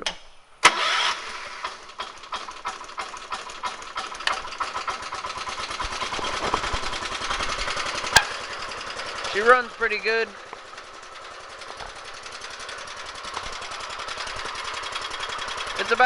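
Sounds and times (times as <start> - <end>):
garden tractor engine idling: 0.7 - 16.0.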